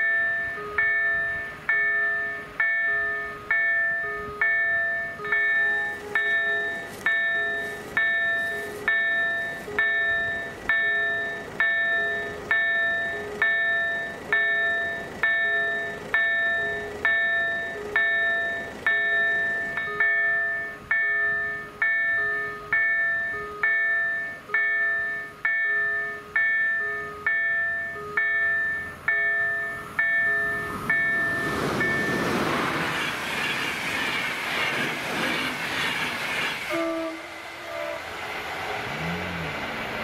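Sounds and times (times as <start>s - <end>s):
level crossing warning bell: 0.0s - 32.9s.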